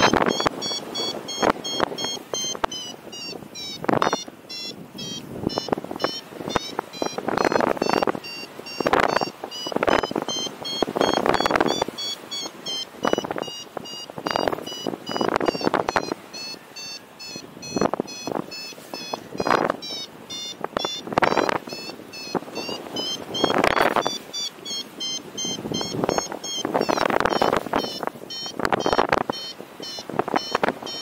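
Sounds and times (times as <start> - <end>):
variometer short high beeps: 0.0 - 31.0
wind gusts on microphone: 0.0 - 31.0.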